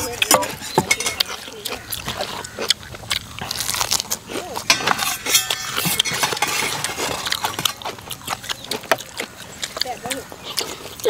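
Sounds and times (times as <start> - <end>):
chewing noodles: 0.0 - 11.0
crunching lettuce bites: 0.0 - 11.0
mouth clicks: 0.6 - 4.8, 5.5 - 11.0.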